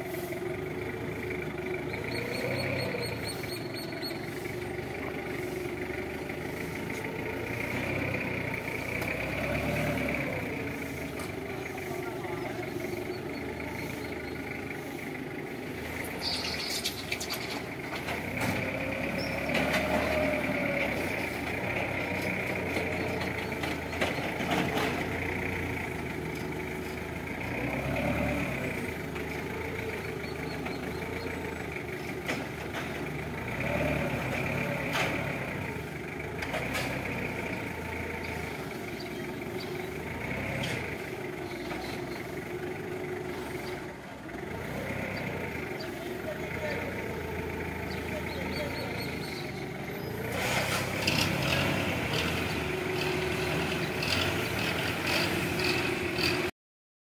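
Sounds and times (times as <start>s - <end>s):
forklift engine running: 0.0s - 56.5s.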